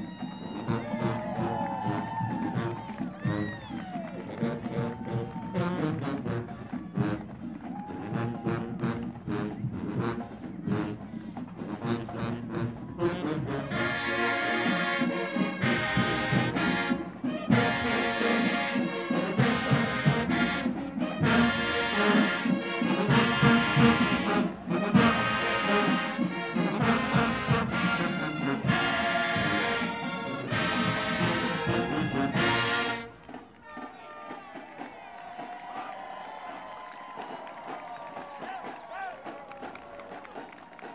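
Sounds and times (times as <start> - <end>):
marching band brass playing: 0.0 - 36.2.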